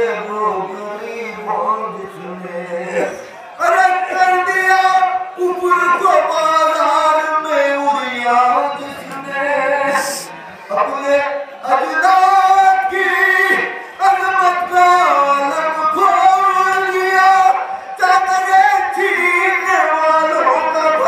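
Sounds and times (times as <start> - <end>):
person singing a lament: 0.0 - 21.0.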